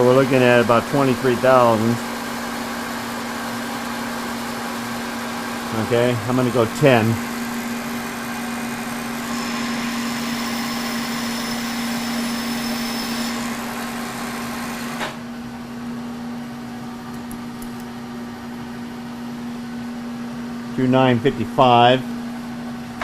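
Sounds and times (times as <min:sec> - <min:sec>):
machine spindle hum: 0:00.0 - 0:20.7.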